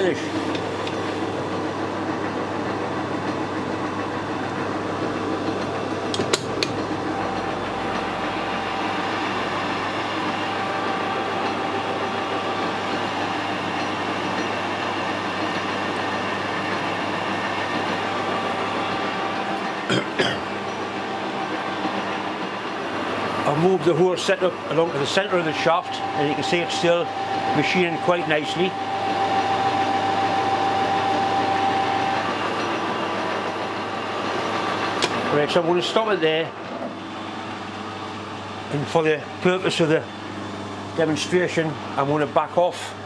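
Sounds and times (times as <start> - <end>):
metal lathe humming: 0.0 - 43.0.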